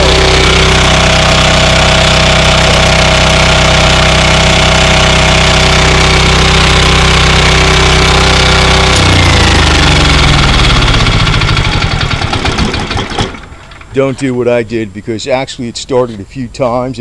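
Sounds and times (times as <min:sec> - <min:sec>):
diesel generator engine running: 0:00.0 - 0:16.3.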